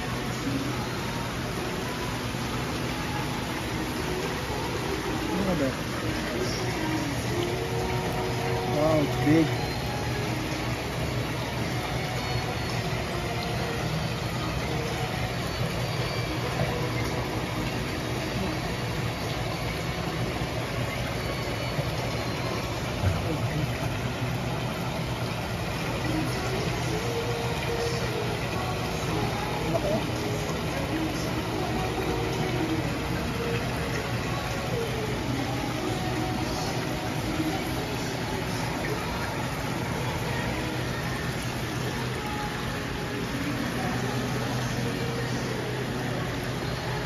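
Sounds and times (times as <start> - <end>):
aerated water churning: 0.0 - 47.0
low equipment hum: 0.0 - 47.0.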